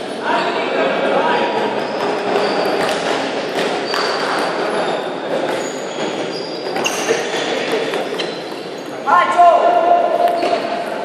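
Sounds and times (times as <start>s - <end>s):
din of hall: 0.0s - 11.0s.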